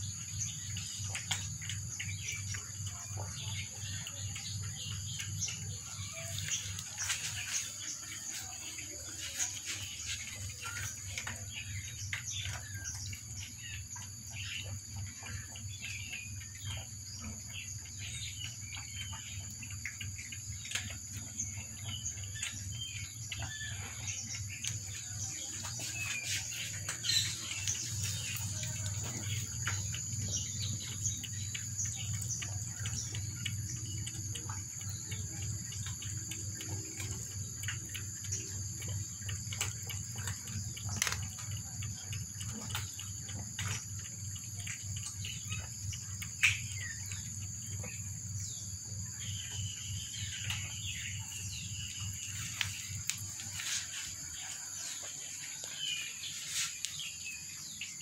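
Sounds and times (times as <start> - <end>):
cats lapping water: 0.0 - 58.0
insects droning: 0.0 - 58.0.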